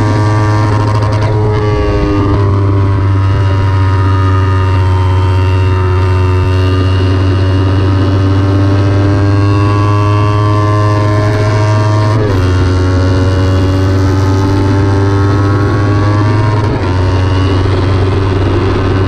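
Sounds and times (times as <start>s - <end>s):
motorcycle engine revving high: 0.0s - 19.0s.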